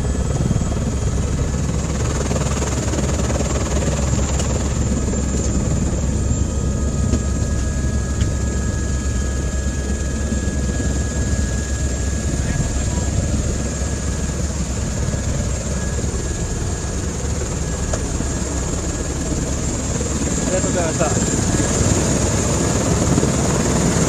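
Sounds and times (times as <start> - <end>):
helicopter rotor and engine drone: 0.0 - 24.0.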